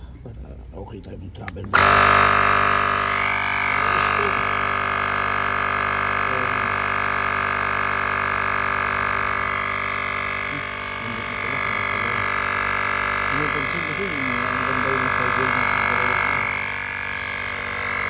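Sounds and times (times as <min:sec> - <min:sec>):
electric tyre inflator buzzing: 0:01.7 - 0:18.0.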